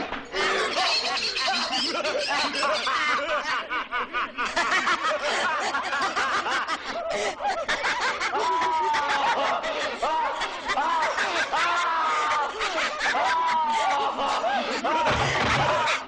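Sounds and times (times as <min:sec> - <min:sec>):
many voices cackling with laughter: 0:00.0 - 0:16.0.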